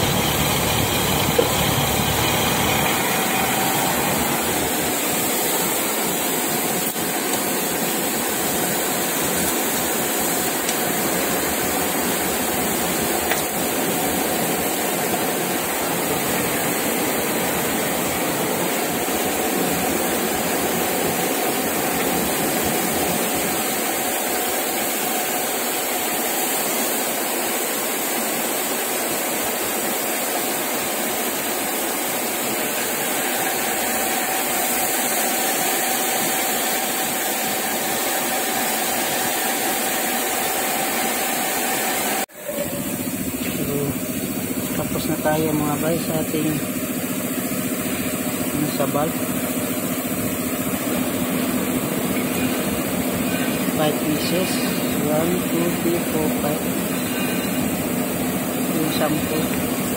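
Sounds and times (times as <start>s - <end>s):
metal lathe running: 0.0s - 27.8s, 28.8s - 59.9s.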